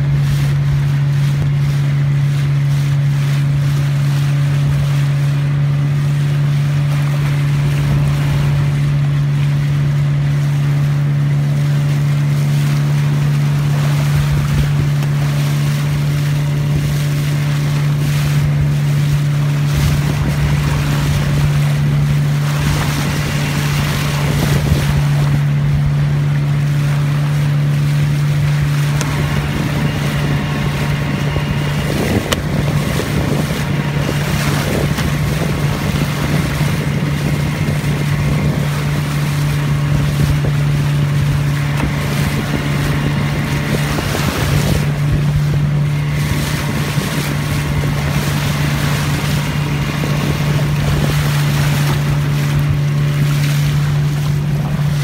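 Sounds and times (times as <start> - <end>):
motorboat engine running: 0.0 - 55.0
water splashing along hull: 0.0 - 55.0
wind buffeting microphone: 0.0 - 55.0.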